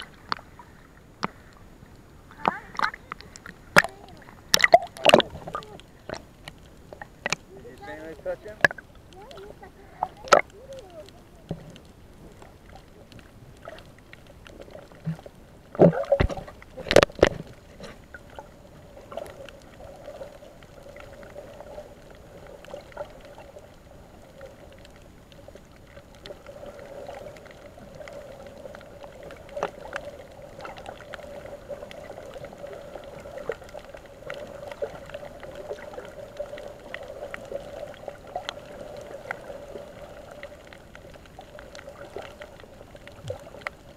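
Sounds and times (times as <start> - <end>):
underwater swish and gurgle: 0.0 - 43.9.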